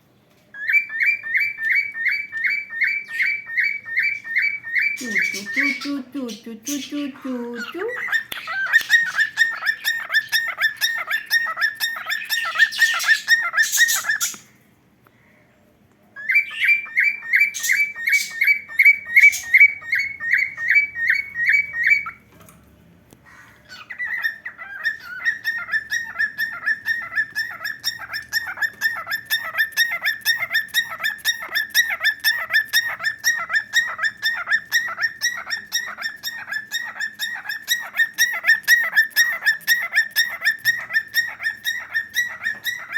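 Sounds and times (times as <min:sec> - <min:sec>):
cockatiel chirping rapidly: 0:00.6 - 0:06.0, 0:07.7 - 0:14.5, 0:16.2 - 0:22.2, 0:23.6 - 0:42.9.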